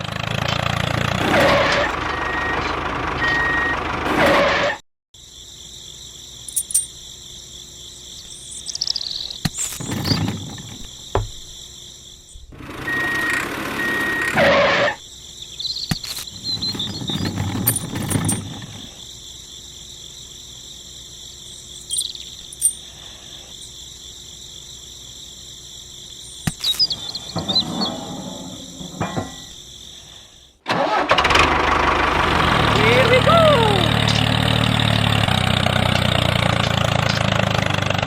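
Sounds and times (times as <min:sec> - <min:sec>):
insects trilling: 0:05.2 - 0:31.1, 0:32.5 - 0:37.9.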